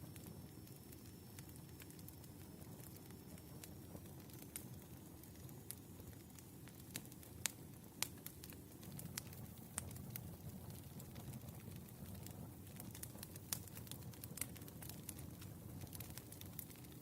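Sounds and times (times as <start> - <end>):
low rumble of burning logs: 0.0 - 17.0
sharp pops of fire: 0.0 - 17.0
wood fire crackling: 0.0 - 17.0.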